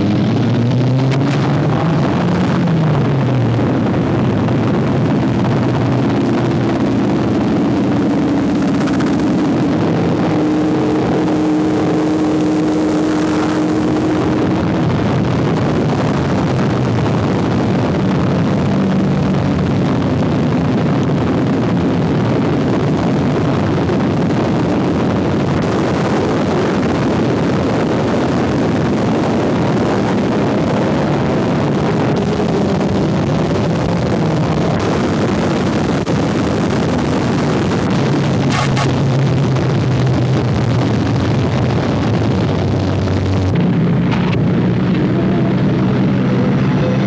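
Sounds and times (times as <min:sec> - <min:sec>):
racing car engines: 0:00.0 - 0:47.0.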